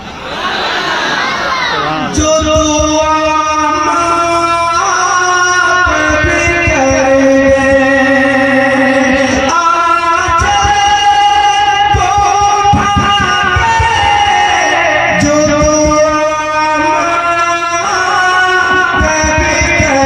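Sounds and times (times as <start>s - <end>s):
man singing devotional song: 2.1s - 20.0s.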